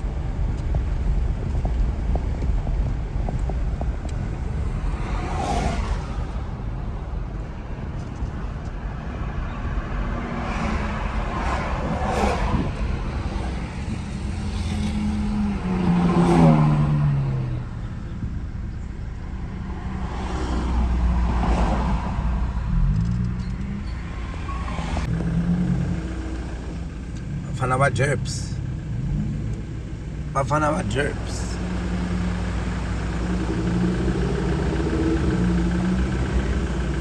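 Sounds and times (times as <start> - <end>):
steady engine hum: 0.0 - 37.0
vehicles passing: 0.0 - 37.0.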